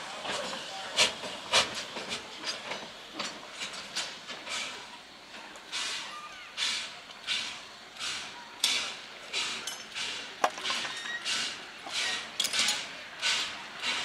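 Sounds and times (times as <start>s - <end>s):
steam locomotive chuffing: 0.0s - 14.0s.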